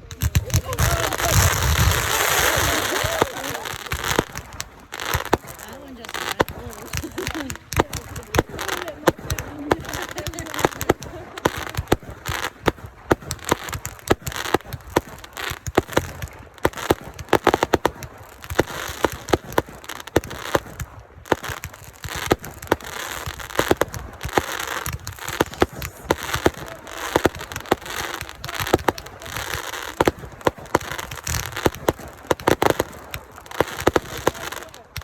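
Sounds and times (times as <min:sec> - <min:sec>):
fireworks crackling: 0:00.0 - 0:35.0
fireworks popping and banging: 0:00.0 - 0:35.0.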